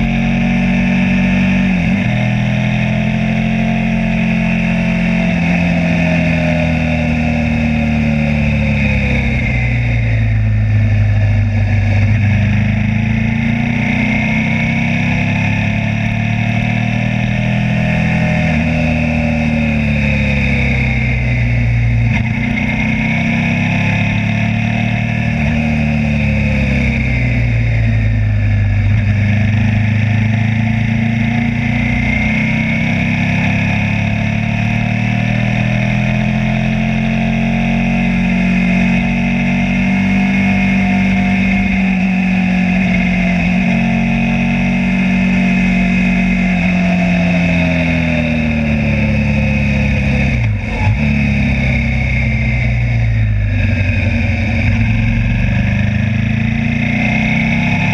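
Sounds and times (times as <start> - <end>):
motorcycle engine: 0.0 - 57.9.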